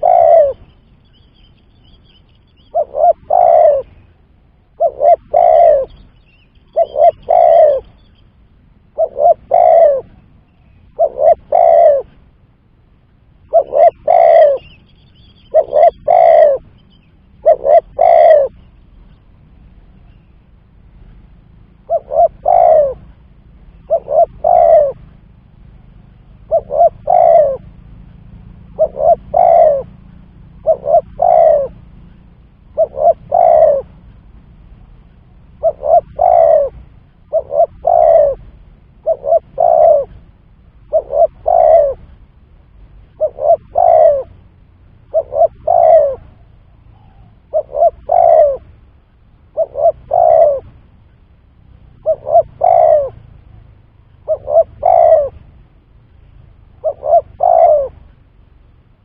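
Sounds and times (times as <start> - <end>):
dove cooing: 0.0 - 0.8, 2.5 - 8.0, 8.9 - 12.2, 13.4 - 18.8, 21.7 - 34.2, 34.9 - 42.4, 43.0 - 51.0, 51.7 - 55.8, 56.5 - 58.1.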